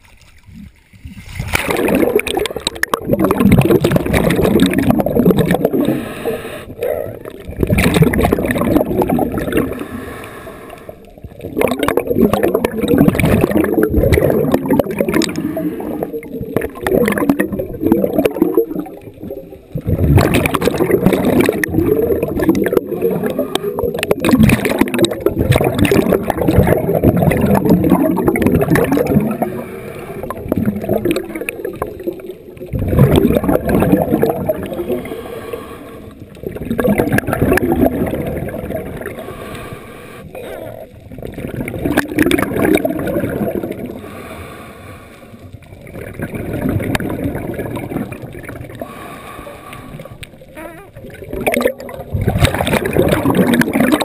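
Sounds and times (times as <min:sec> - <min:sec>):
underwater bubbles gurgling: 0:00.0 - 0:54.0.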